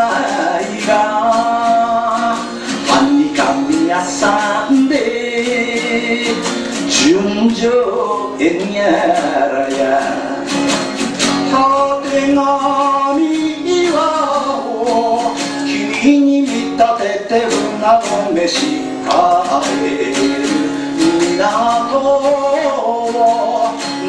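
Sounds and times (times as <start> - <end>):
acoustic guitar: 0.0 - 24.0
man singing: 0.0 - 24.0.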